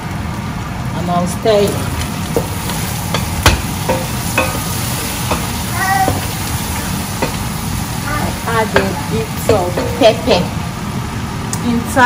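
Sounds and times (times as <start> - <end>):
food sizzling in pot: 1.3 - 12.0.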